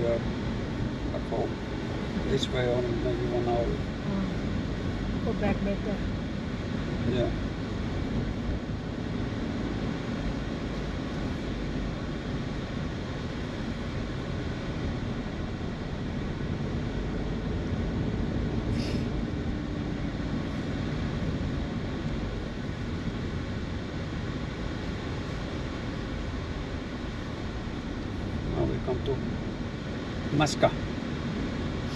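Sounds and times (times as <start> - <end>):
car engine and tyre noise: 0.0 - 31.9.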